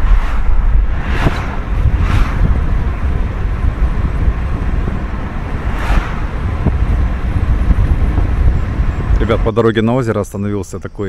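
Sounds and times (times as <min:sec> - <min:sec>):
rushing swells: 0:00.0 - 0:09.5
wind buffeting microphone: 0:00.0 - 0:10.0
vehicle low rumble: 0:00.0 - 0:10.9.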